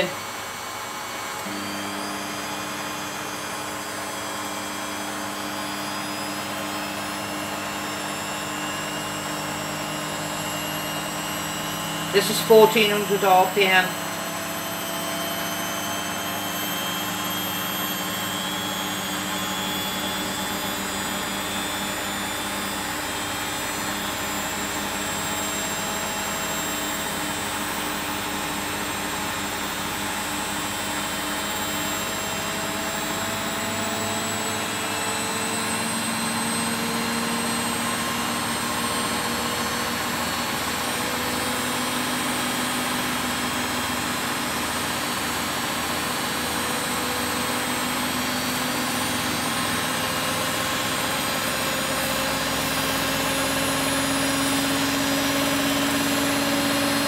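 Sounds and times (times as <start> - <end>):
washing machine spin whine: 0.0 - 57.0.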